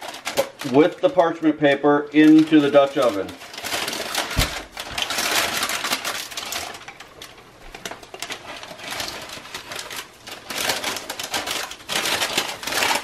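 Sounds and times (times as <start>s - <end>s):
parchment paper crinkling: 0.0s - 13.0s.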